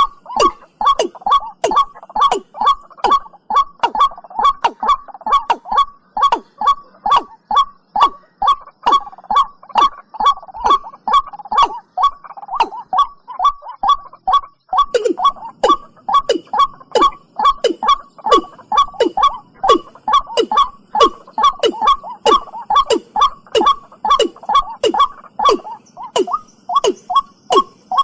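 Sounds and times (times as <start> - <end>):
bird calling descending notes: 0.0 - 28.0.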